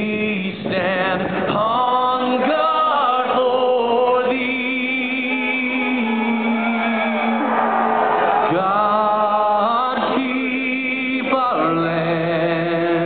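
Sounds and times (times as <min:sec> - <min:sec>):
singing over loudspeakers: 0:00.0 - 0:13.0.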